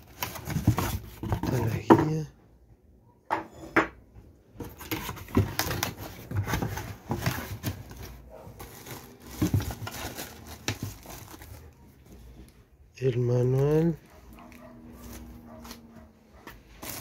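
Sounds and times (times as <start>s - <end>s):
plastic wrap rustling and crinkling: 0.0s - 1.9s, 4.6s - 16.0s, 16.6s - 17.0s.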